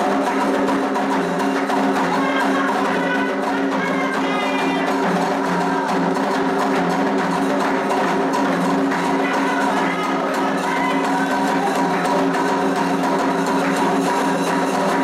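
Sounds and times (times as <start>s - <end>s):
hand percussion beat: 0.0s - 15.0s
wood-block-like strikes: 0.0s - 15.0s.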